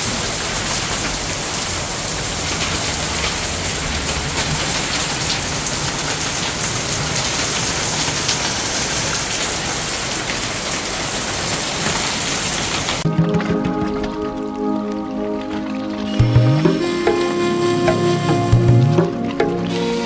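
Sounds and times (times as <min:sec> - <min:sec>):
heavy rain on hard surfaces: 0:00.0 - 0:20.0.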